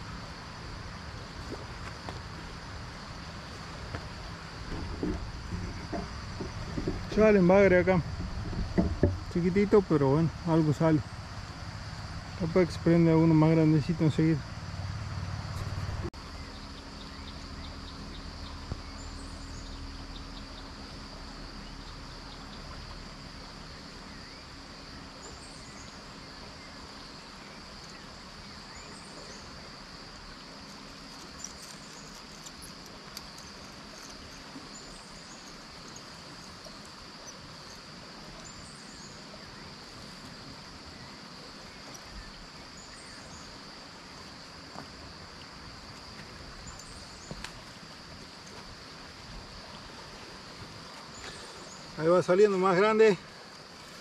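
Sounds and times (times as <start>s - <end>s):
flowing water hiss: 0.0s - 54.0s
high insect drone: 0.0s - 54.0s.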